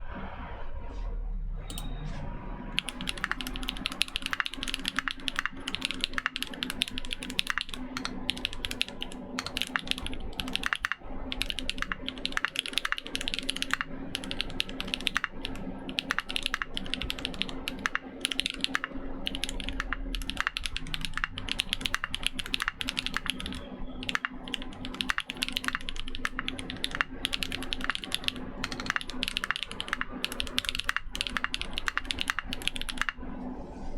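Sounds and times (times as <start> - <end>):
mechanical keyboard typing: 2.7 - 33.2.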